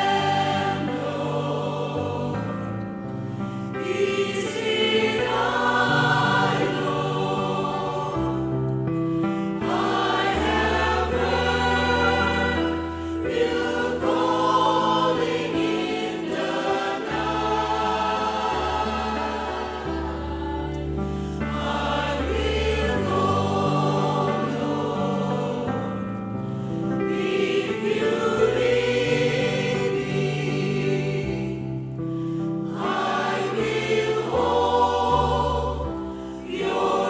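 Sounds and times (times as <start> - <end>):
choir singing worship song: 0.0 - 37.0.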